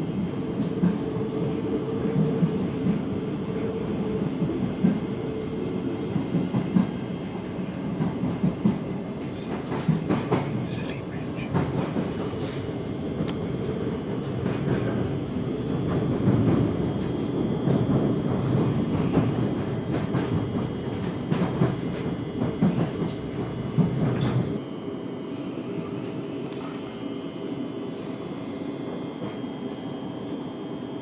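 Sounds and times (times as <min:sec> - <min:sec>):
train wheels rumbling on rails: 0:00.0 - 0:24.6, 0:27.8 - 0:31.0
electric train hum: 0:00.0 - 0:31.0.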